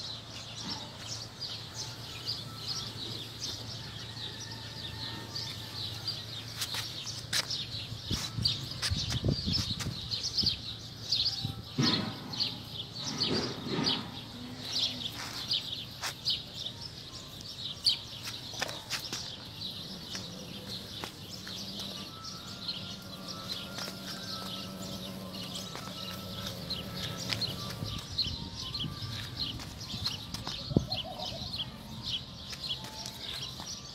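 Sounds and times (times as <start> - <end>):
small birds chirping: 5.0 - 33.9.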